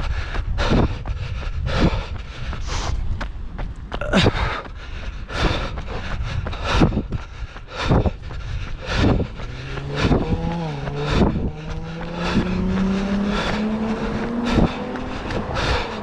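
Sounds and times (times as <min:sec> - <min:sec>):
running footsteps on trail: 0:00.0 - 0:16.0
vehicle engine hum: 0:00.0 - 0:16.0.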